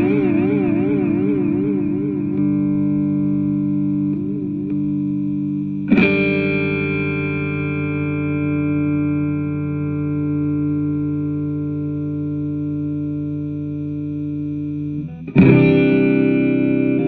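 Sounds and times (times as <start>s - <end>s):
electric guitar chords warbling: 0.0s - 17.0s.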